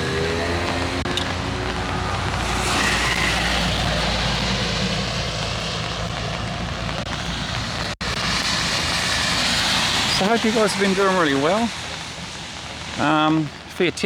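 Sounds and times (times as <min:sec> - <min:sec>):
rain hissing on an umbrella: 0:00.0 - 0:14.0
road traffic rumble: 0:00.0 - 0:14.0.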